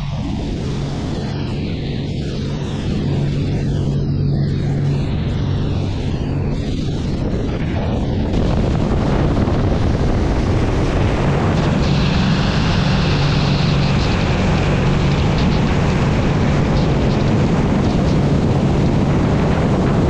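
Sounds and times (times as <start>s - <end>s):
boat engine drone: 0.0s - 20.0s.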